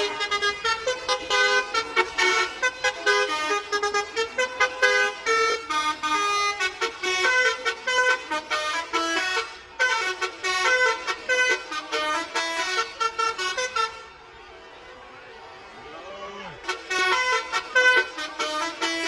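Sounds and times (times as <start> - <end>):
bus air horn melody: 0.0 - 14.2, 16.6 - 19.0.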